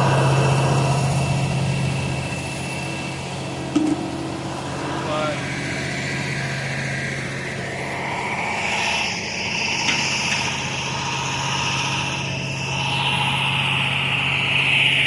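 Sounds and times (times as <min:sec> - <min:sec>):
engine humming with hiss: 0:00.0 - 0:15.0.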